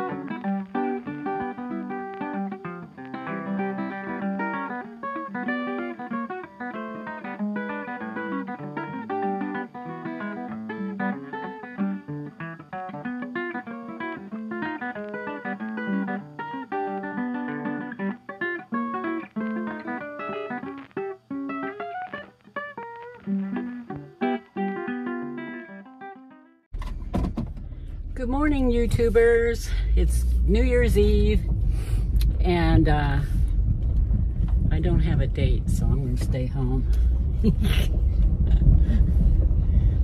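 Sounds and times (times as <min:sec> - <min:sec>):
acoustic guitar piece: 0:00.0 - 0:40.0.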